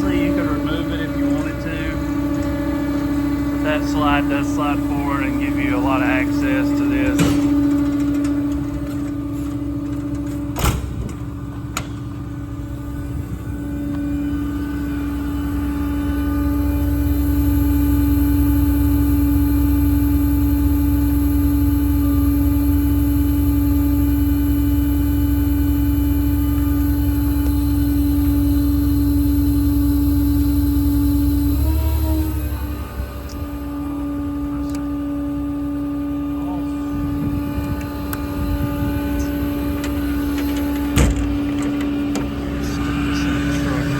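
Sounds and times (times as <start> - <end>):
air compressor whine: 0.0 - 43.9
low engine rumble: 0.0 - 43.9.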